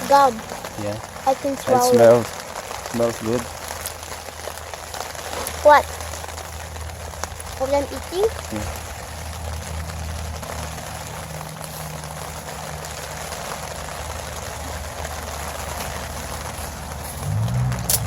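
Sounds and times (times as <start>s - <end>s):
rain falling on a tent: 0.0s - 18.0s.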